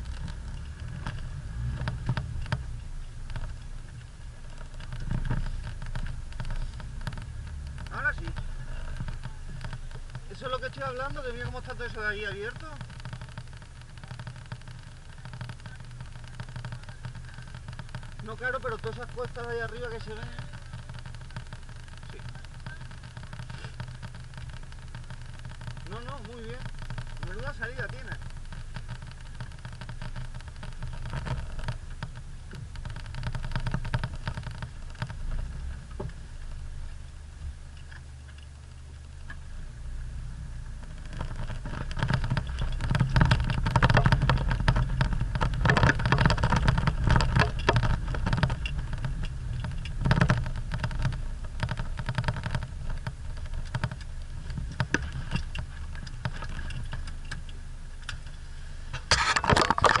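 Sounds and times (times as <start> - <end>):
car engine hum: 0.0 - 60.0
stones clicking under tyres: 0.0 - 60.0.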